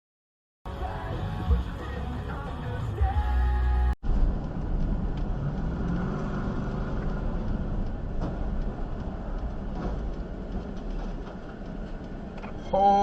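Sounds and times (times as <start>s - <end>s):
car engine and tyre rumble: 0.7s - 13.0s.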